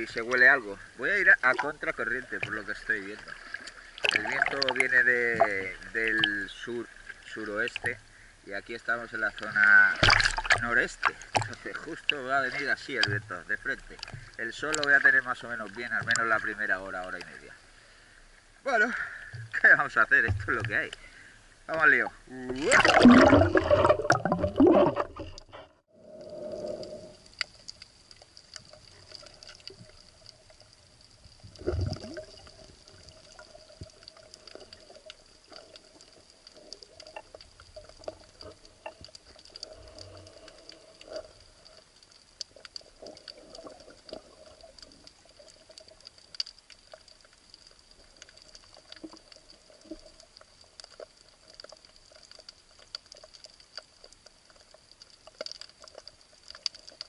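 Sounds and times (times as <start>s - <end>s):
low underwater rush: 0.0s - 52.4s.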